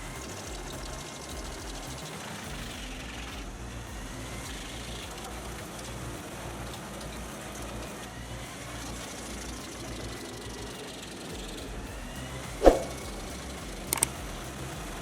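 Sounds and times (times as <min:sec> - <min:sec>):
heavy machine running: 0:00.0 - 0:15.0.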